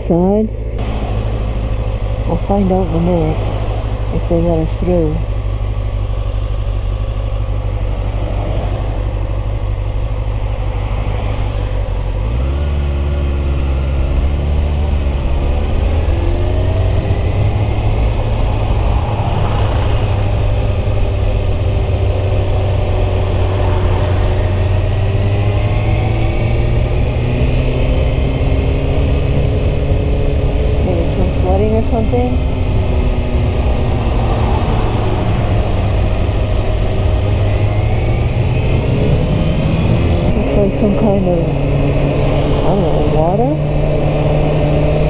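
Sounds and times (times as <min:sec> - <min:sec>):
motorcycle engine: 0:00.0 - 0:45.0.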